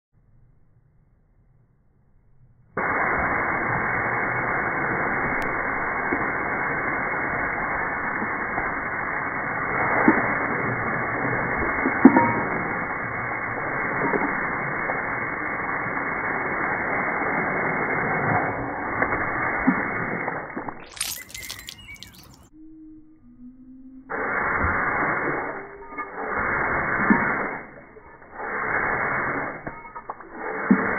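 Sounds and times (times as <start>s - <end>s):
slowed water spray rush: 2.8s - 22.5s, 24.1s - 30.9s.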